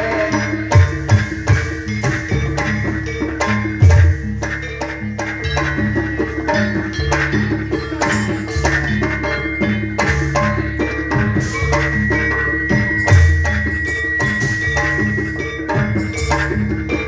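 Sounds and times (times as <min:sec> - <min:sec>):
gamelan percussion and drums: 0:00.0 - 0:17.0.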